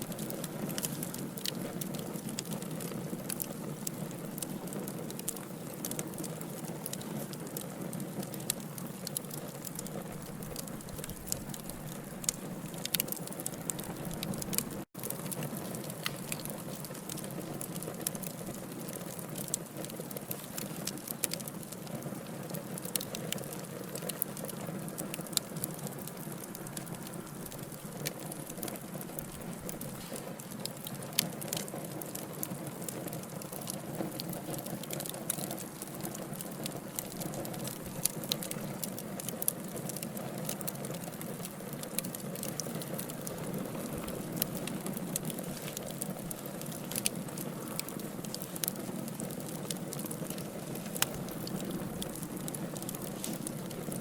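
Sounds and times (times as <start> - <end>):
wood crackling and popping: 0.0 - 54.0
flames rushing in fireplace: 0.1 - 54.0.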